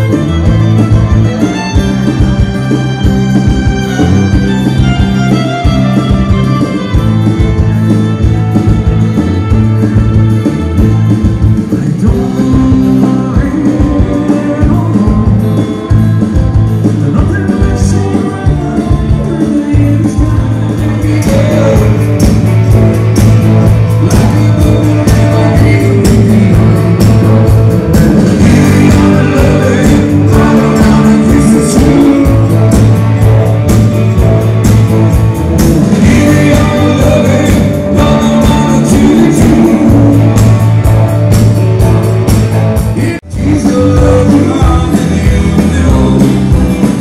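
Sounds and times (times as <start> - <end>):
rock music with singer: 0.0 - 47.0.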